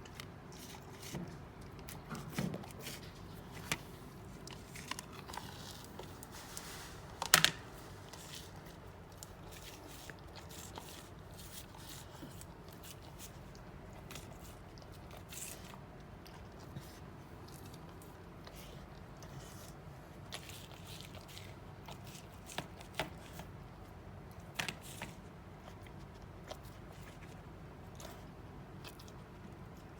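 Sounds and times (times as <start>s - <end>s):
dog chewing and crunching: 0.0s - 6.4s, 7.7s - 23.6s, 24.2s - 29.9s.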